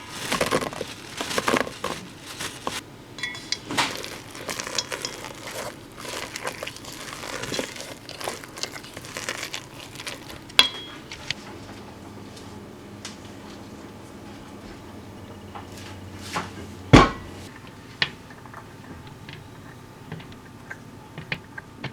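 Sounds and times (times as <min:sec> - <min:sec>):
crinkling and rustling: 0:00.0 - 0:21.9.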